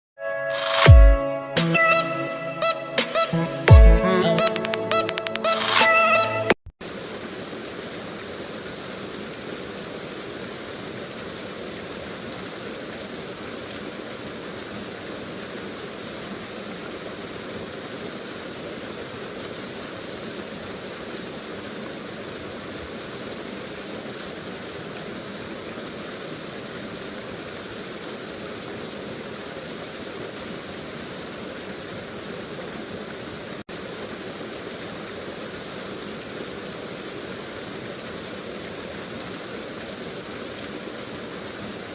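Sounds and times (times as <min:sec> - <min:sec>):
waterfall roaring: 0:06.8 - 0:41.9.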